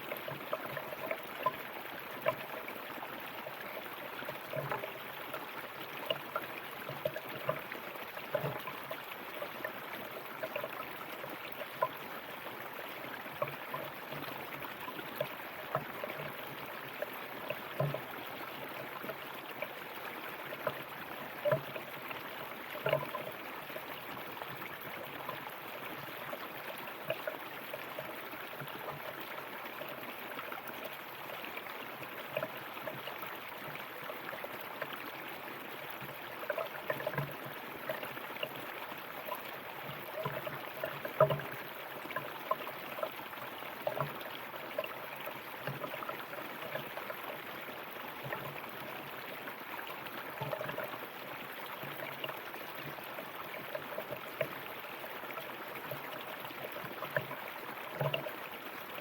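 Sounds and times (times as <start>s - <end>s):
shallow river flowing over rocks: 0.0s - 59.0s.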